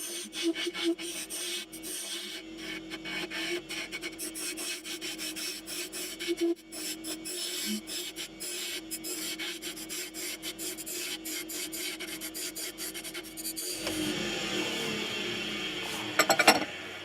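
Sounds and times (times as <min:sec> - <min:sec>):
wood lathe motor hum: 0:00.0 - 0:06.5, 0:07.4 - 0:17.0
turning tool rasping on wood: 0:00.0 - 0:14.0.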